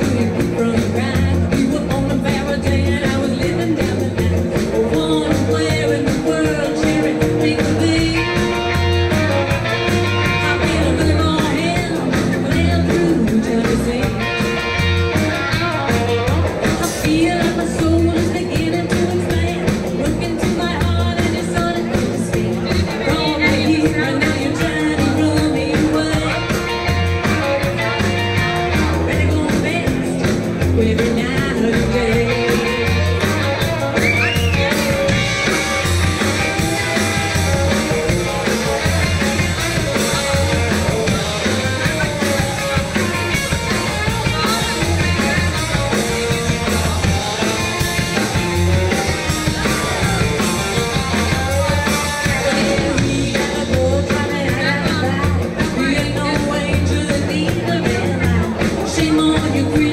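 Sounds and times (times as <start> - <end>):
woman singing: 0.0 - 16.0, 16.6 - 37.8, 38.4 - 47.0, 49.1 - 59.9
drum kit beat: 0.0 - 59.9
electric bass: 0.0 - 59.9
electric guitar: 0.0 - 59.9.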